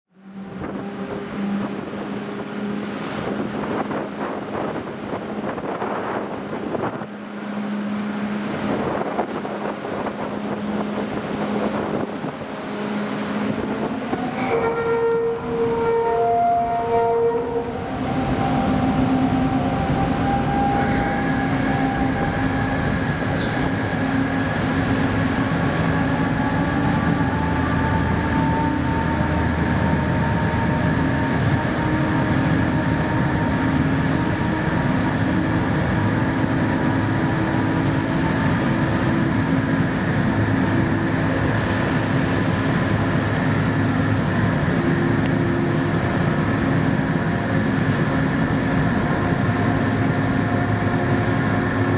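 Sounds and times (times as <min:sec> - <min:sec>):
ship engines droning: 0:00.1 - 0:51.9.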